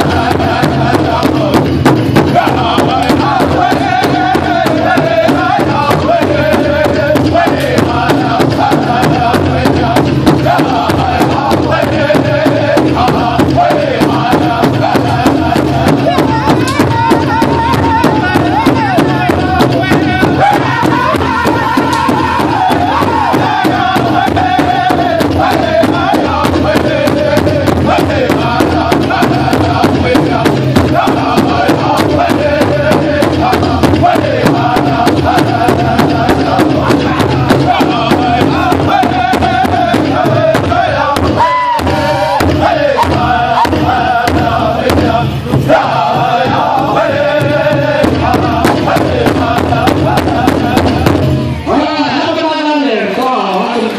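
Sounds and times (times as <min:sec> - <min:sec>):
large hand drum beating: 0:00.0 - 0:51.7
group singing in unison: 0:00.0 - 0:53.9.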